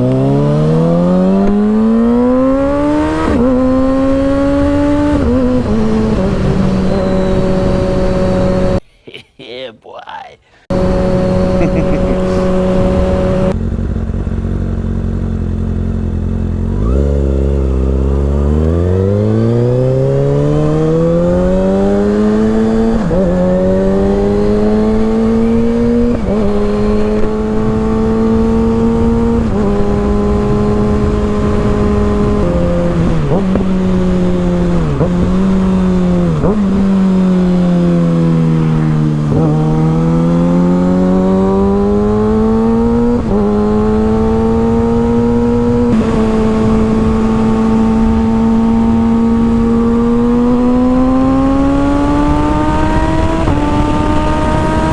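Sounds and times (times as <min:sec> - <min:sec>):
motorcycle engine accelerating: 0:00.0 - 0:08.8, 0:10.7 - 0:54.9.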